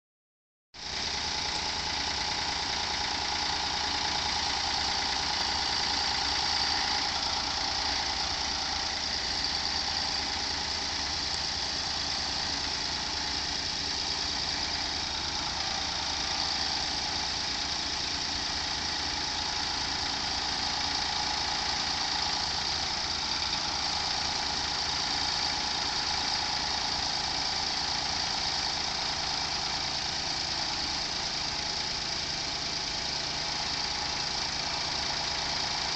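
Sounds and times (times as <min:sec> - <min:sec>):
car engine idling: 0:00.8 - 0:35.9.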